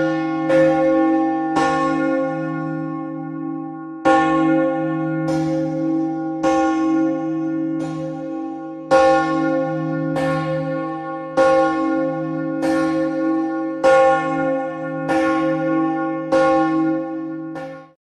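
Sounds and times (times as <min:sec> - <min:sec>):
church bell ringing: 0:00.0 - 0:18.0.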